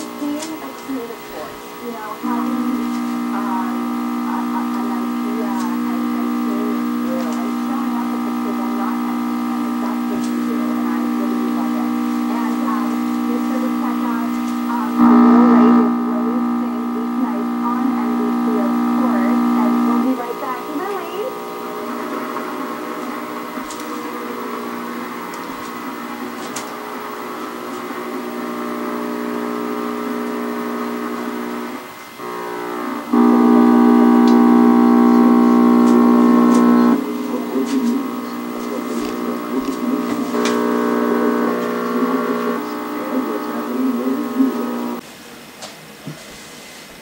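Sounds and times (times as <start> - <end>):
tv programme audio: 0.0 - 45.1
steady buzz from tv speaker: 0.0 - 47.0.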